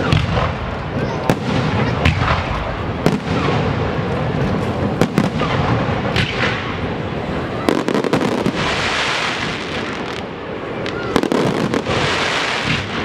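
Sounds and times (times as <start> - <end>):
continuous dense noise: 0.0 - 13.0
fireworks banging: 0.0 - 13.0.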